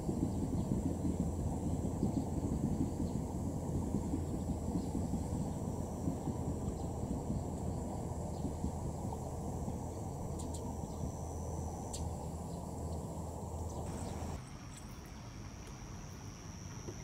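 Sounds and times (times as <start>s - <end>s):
low rumble: 0.0s - 14.4s
insects trilling: 0.0s - 17.0s.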